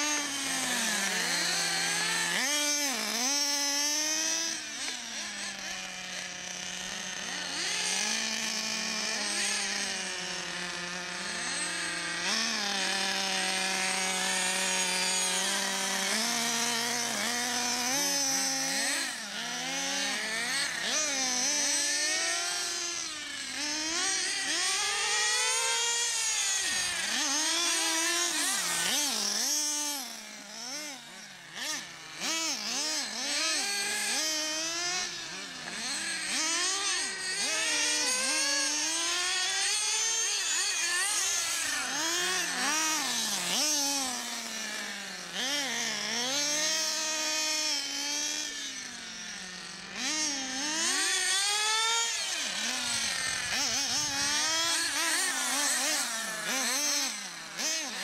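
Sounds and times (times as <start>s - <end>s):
model car engines buzzing: 0.0s - 58.0s.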